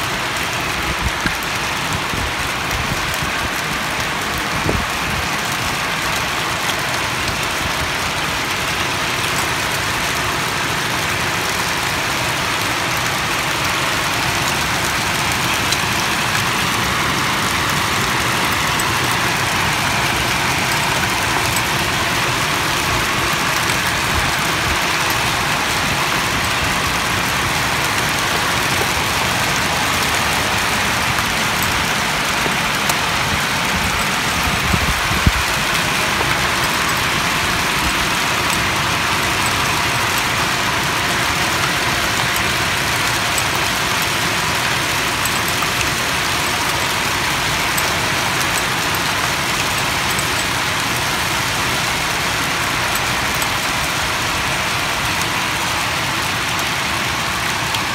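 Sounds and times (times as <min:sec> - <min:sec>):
heavy rain on roofs: 0:00.0 - 0:57.9.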